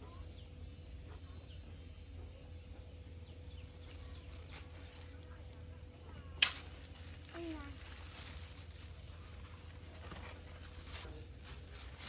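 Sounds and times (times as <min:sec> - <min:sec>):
crickets chirring: 0:00.0 - 0:12.0
low background hum: 0:00.0 - 0:12.0.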